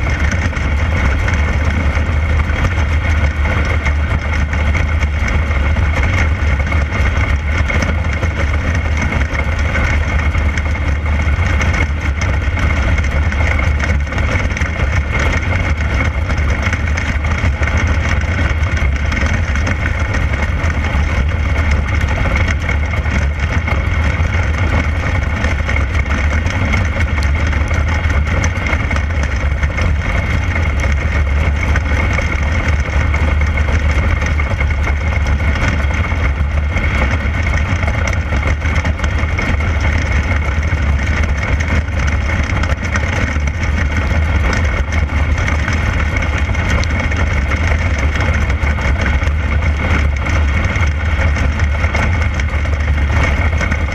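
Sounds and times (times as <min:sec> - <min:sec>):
race car engine rumbling: 0:00.0 - 0:53.9.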